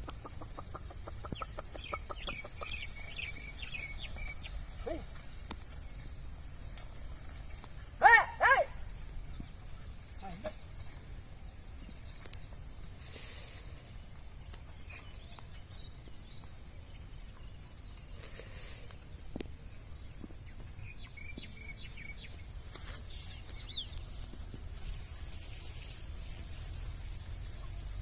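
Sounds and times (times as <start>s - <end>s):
bird chirp: 0.0s - 28.0s
insects chirring: 0.0s - 28.0s.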